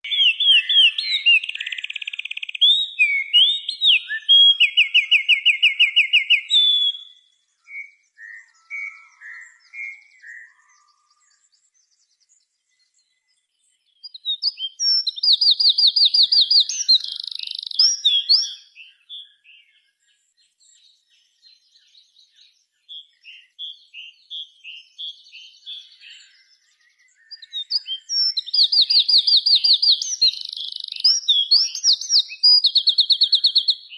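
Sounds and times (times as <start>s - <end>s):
songbird trills and chirps: 0.0s - 33.9s.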